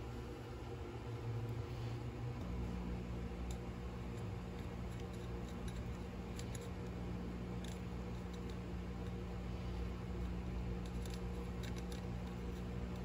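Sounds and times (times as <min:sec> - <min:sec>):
soldering gun humming: 0:00.0 - 0:13.0.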